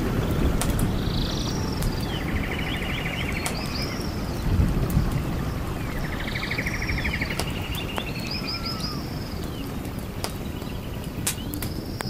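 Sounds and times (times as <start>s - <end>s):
birds singing: 0.0s - 12.0s
low background rush: 0.0s - 12.0s.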